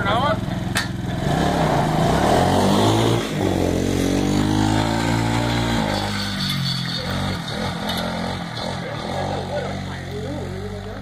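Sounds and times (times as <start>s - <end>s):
quad engine at high revs: 0.0s - 11.0s.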